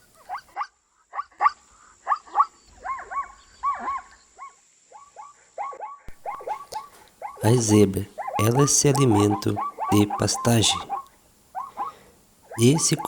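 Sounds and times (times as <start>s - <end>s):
zebra yelping barks: 0.2s - 13.0s.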